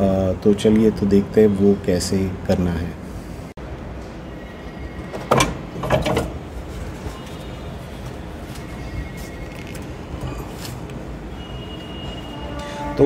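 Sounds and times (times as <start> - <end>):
low steady background noise: 0.0 - 12.9.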